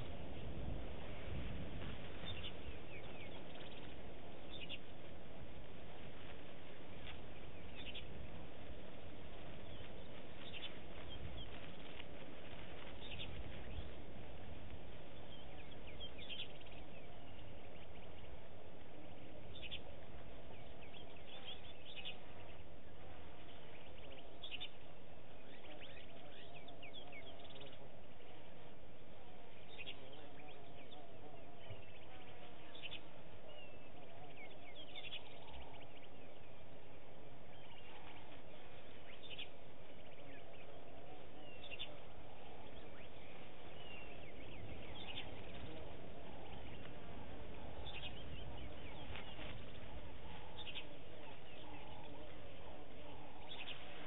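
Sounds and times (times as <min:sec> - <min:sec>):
birds chirping: 0:00.0 - 0:54.0
steady background hiss: 0:00.0 - 0:54.0.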